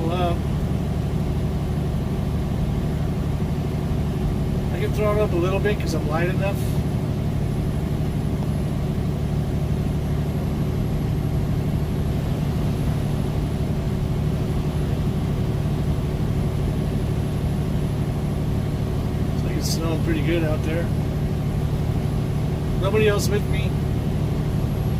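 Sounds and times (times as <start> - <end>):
diesel truck engine droning: 0.0 - 24.9.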